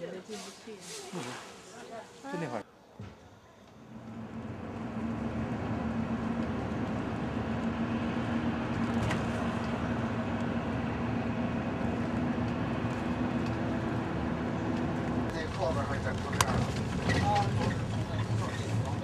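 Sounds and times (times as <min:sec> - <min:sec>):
vehicle engine and road noise: 0:03.6 - 0:19.0.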